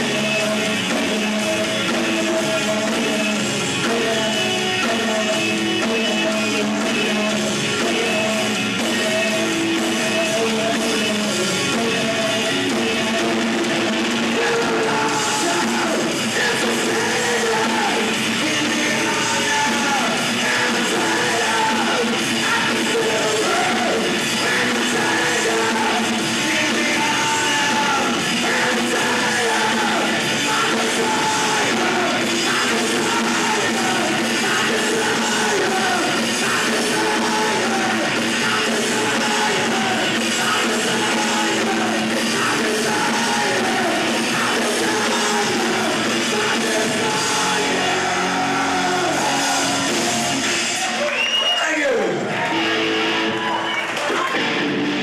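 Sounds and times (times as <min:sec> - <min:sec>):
person singing: 0:00.0 - 0:50.9
rock band playing live: 0:00.0 - 0:55.0.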